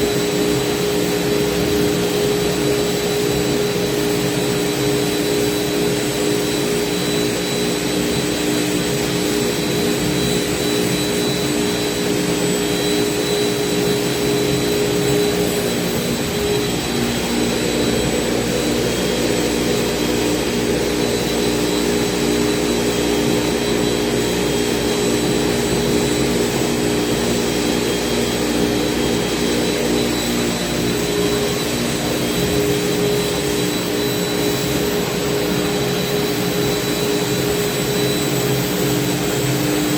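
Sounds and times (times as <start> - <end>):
cnc router whining: 0.0 - 39.9.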